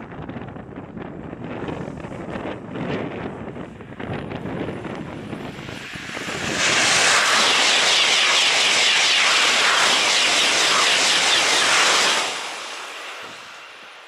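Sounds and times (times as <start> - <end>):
high-speed train passing: 0.0 - 14.0.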